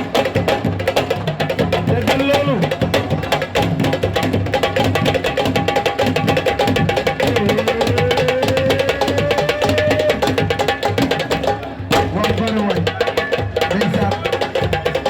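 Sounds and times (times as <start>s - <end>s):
fast drum strokes: 0.0s - 15.0s.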